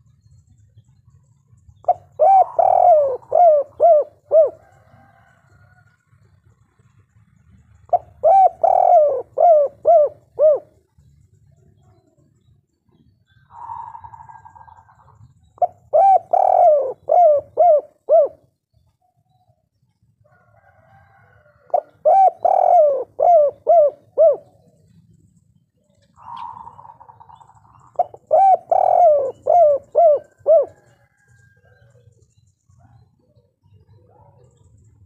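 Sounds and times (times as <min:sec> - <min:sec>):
dove cooing: 0:00.0 - 0:05.6, 0:07.8 - 0:12.2, 0:13.0 - 0:18.5, 0:20.6 - 0:25.1, 0:25.8 - 0:35.0.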